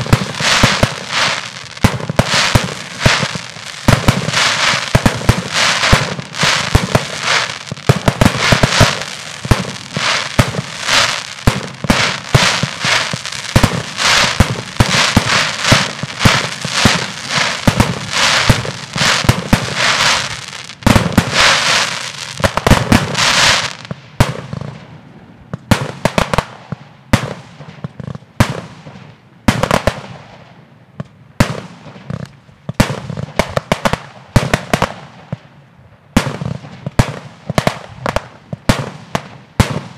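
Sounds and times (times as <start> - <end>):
fireworks bursting bangs: 0.0 - 30.5, 31.4 - 35.5, 36.1 - 39.9.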